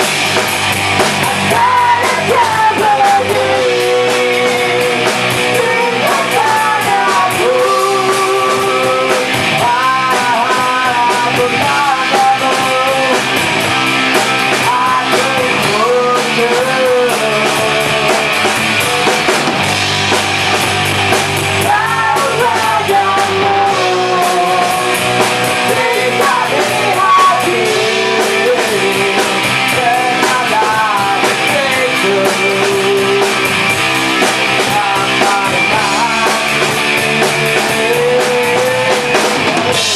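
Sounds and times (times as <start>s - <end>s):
bass guitar: 0.0s - 39.9s
electric guitar: 0.0s - 39.9s
rock band playing: 0.0s - 39.9s
person singing: 1.2s - 13.4s, 14.5s - 19.4s, 21.6s - 39.9s.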